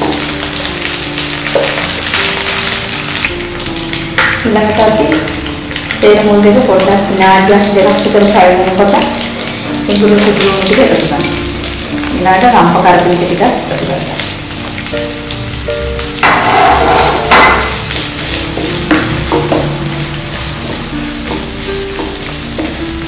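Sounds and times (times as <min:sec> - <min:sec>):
aromatics sizzling in oil: 0:00.0 - 0:23.0
background music: 0:00.0 - 0:23.0.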